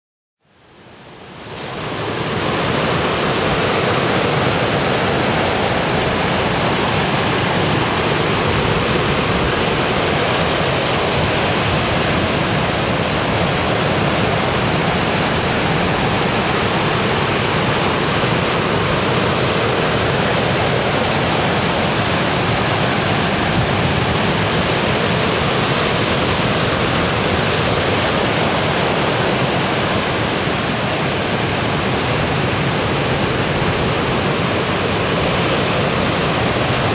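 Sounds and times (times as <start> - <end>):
ocean surf breaking: 1.2 - 36.9.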